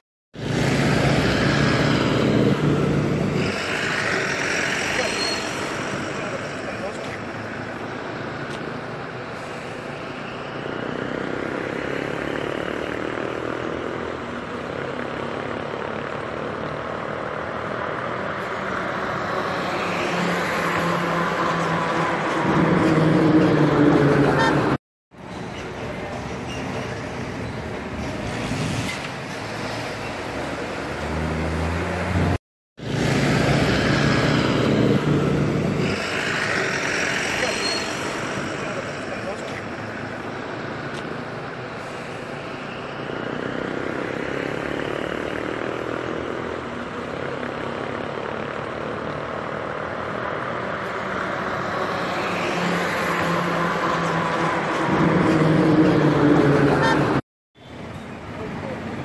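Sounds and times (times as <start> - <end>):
highway traffic passing: 0.0 - 59.0.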